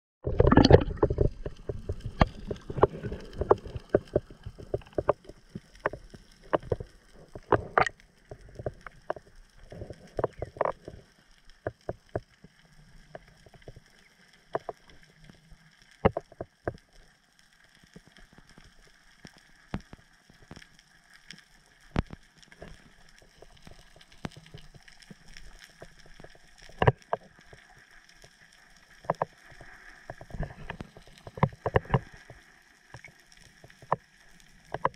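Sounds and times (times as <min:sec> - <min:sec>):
muffled underwater clicks and knocks: 0:00.2 - 0:17.0, 0:17.9 - 0:20.7, 0:21.8 - 0:34.9.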